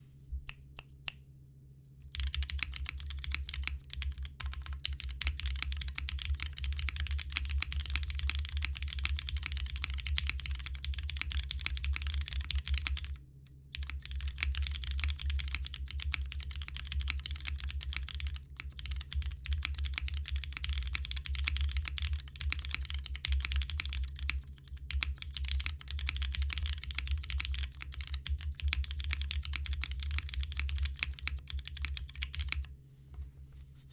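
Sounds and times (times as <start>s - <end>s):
mechanical keyboard typing: 2.1s - 13.2s, 13.8s - 32.7s.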